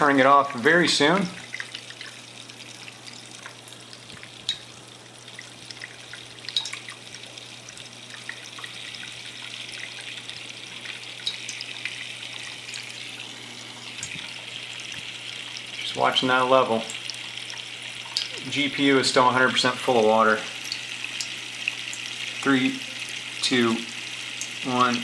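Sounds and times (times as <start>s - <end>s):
drips and splashes: 0.0s - 25.0s
liquid trickling: 0.0s - 25.0s
pump humming: 0.0s - 25.0s.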